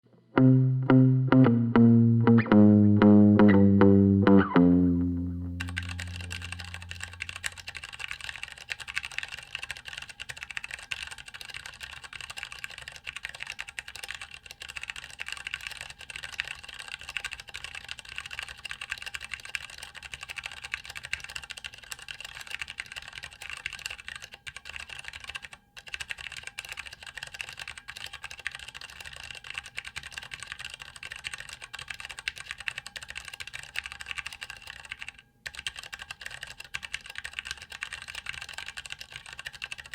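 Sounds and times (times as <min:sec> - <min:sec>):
fast mechanical keyboard typing: 0:05.6 - 0:39.9.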